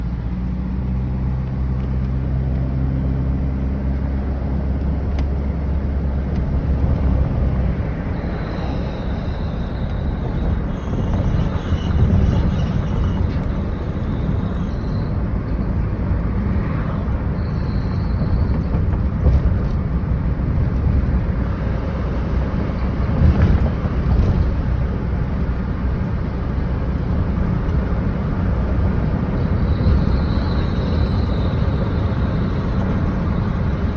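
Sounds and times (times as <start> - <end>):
truck engine and road noise: 0.0 - 33.9.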